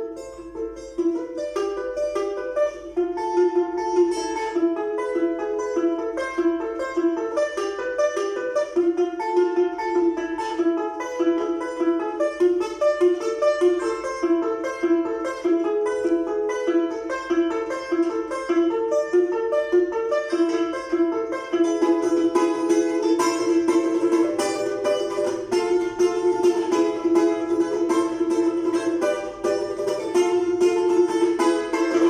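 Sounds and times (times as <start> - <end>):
balalaika melody: 0.0 - 32.0.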